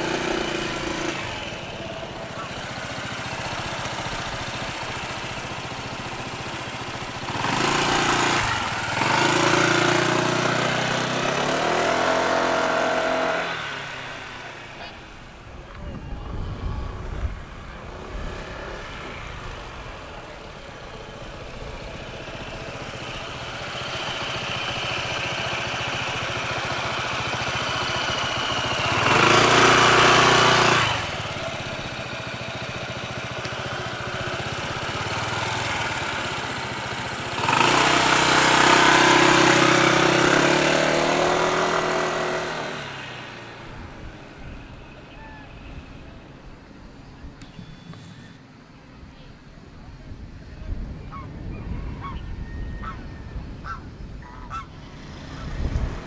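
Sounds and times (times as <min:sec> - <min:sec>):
scooter engine running: 0:00.0 - 0:48.4, 0:54.5 - 0:56.0.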